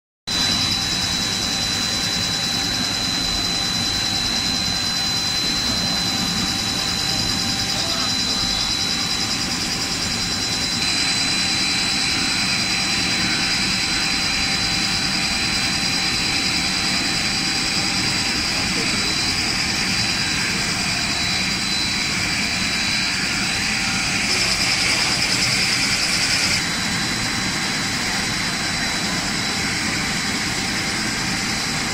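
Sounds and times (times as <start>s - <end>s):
high-pitched machine whine: 0.3s - 31.9s
mechanical hum: 0.3s - 31.9s.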